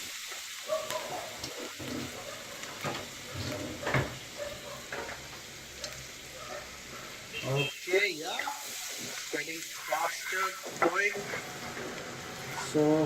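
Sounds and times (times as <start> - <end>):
garlic frying in hot oil: 0.0 - 13.0.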